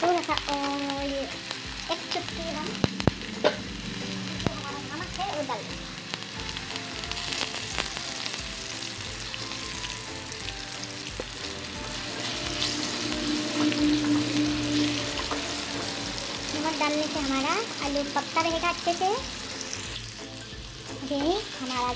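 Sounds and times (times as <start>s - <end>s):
potatoes sizzling in oil: 0.0s - 21.9s.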